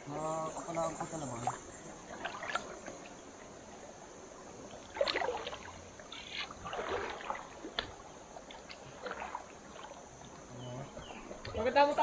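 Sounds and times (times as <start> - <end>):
water splashing and sloshing: 0.6 - 12.0.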